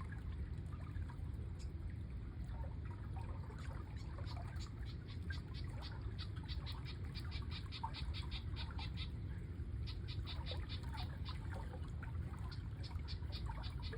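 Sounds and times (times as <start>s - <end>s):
running water: 0.0s - 13.9s.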